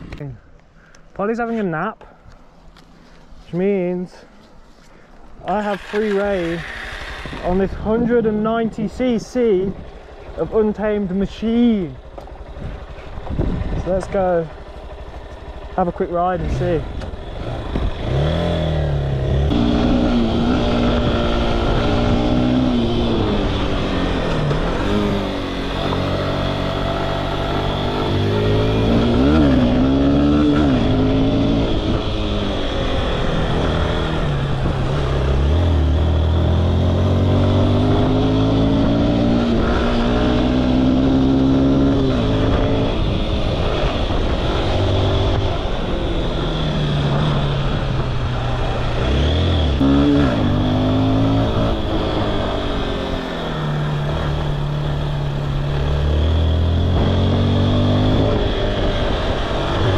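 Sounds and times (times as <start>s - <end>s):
motorcycle engine revving: 5.4s - 59.9s.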